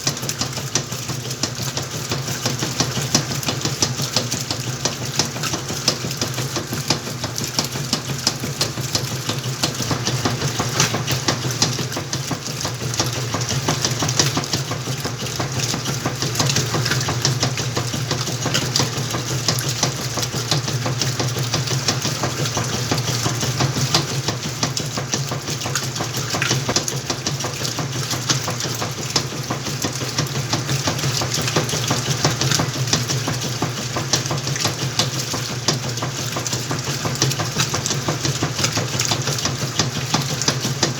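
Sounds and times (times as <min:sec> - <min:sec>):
washing machine motor hum: 0:00.0 - 0:40.9
water and clothes sloshing in drum: 0:00.0 - 0:40.9.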